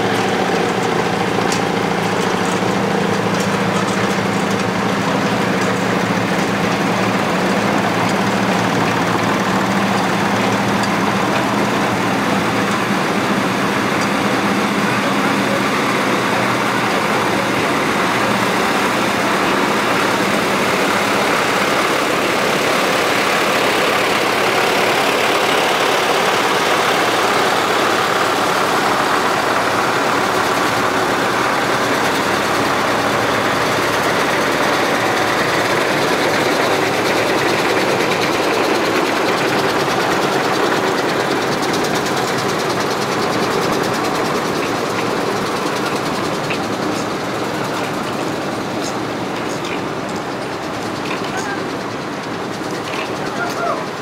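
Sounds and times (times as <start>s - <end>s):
tractor engine driving past: 0.0s - 54.0s.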